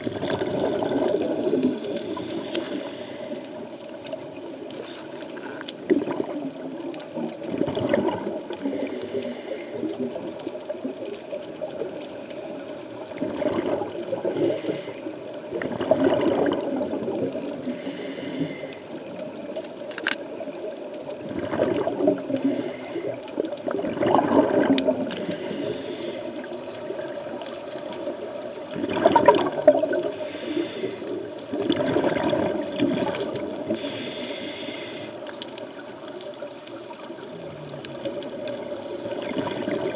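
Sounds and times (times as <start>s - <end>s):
underwater hiss: 0.0s - 19.6s, 20.6s - 39.9s.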